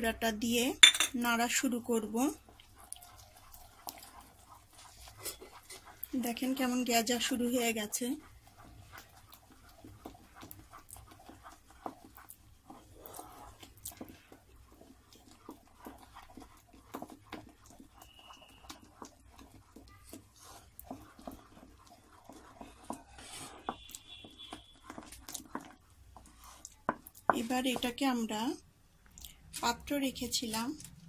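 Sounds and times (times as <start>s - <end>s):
spatula scraping metal saucepan: 0.9s - 28.2s.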